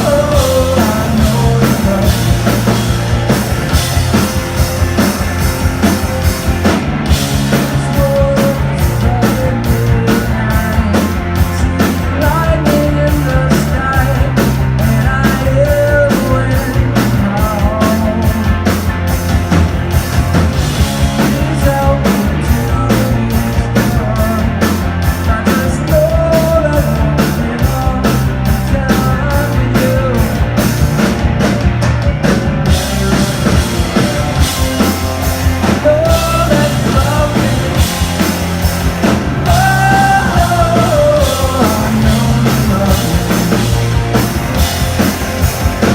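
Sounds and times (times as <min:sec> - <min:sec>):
punk rock band playing: 0:00.0 - 0:45.9.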